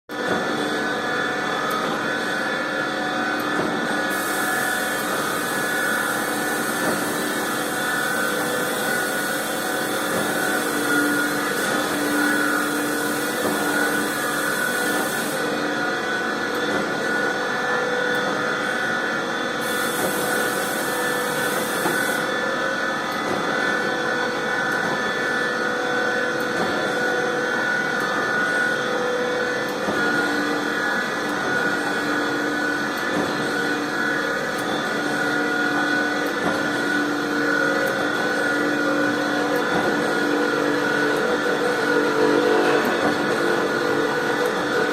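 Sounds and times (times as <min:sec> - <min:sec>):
grinder machine hum: 0:00.1 - 0:44.9.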